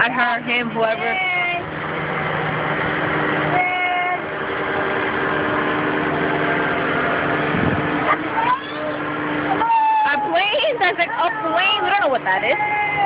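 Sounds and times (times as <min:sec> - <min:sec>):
paramotor engine droning overhead: 0:00.0 - 0:13.0.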